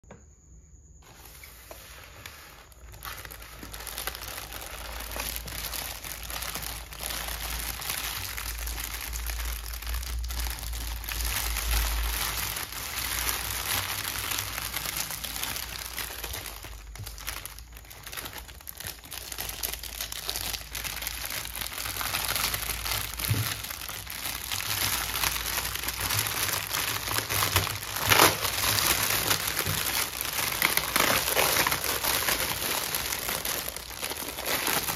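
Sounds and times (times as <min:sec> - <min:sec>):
plastic packaging crinkling: 0:01.0 - 0:34.9.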